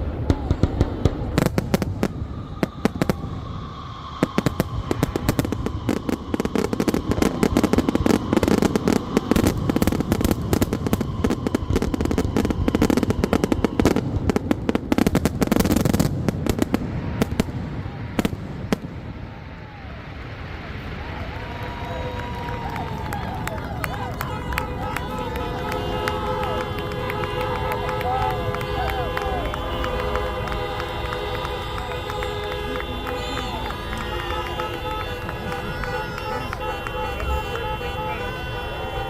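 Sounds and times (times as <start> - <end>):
fireworks crackling and banging: 0.0 - 39.0.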